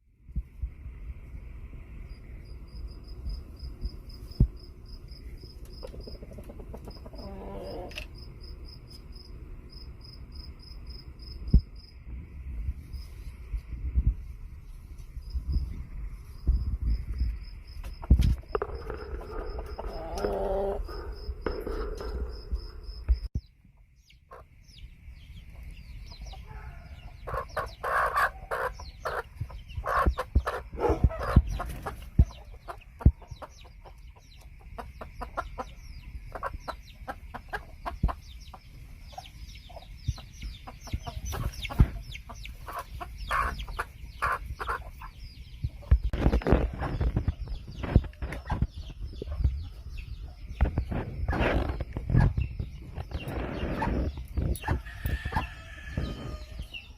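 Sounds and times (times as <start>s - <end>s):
chickens clucking: 3.4s - 9.1s, 15.0s - 56.9s.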